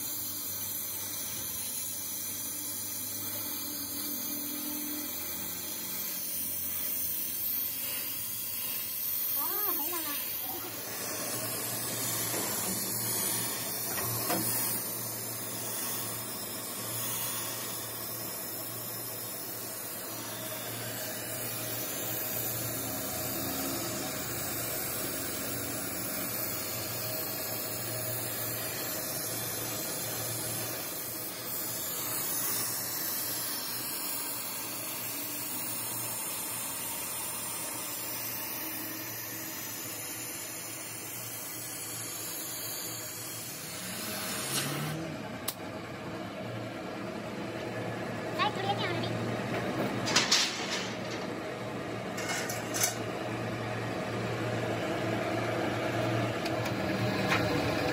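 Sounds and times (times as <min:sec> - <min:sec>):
gas torch flame hissing: 0:00.0 - 0:45.7, 0:49.7 - 0:57.9
low workshop hum: 0:00.0 - 0:57.9.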